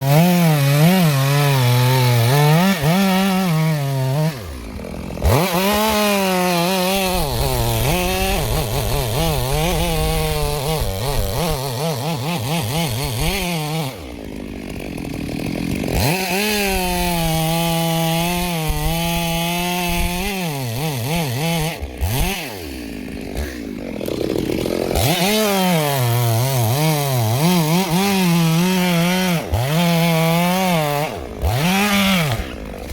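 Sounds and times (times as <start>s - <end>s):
chainsaw cutting tree: 0.0s - 32.9s.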